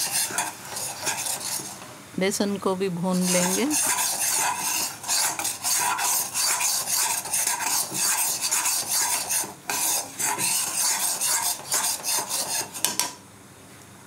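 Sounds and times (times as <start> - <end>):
steel spatula scraping a pan: 0.0 - 1.8, 3.1 - 13.1.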